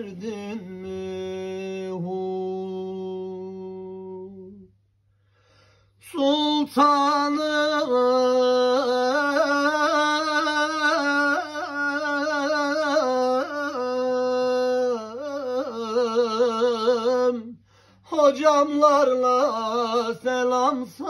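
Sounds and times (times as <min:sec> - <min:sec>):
man singing a hymn: 0:00.0 - 0:04.7, 0:06.0 - 0:21.0.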